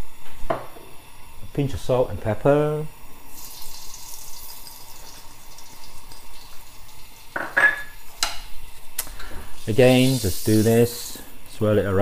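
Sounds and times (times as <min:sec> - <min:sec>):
oil sizzling in a wok: 0:00.0 - 0:11.5.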